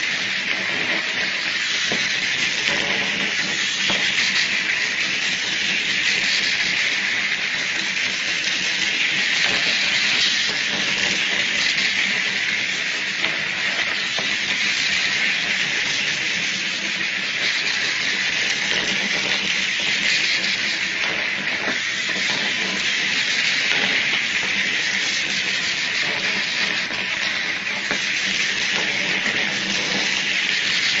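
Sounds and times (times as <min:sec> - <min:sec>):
small gear motors whirring: 0:00.0 - 0:31.0.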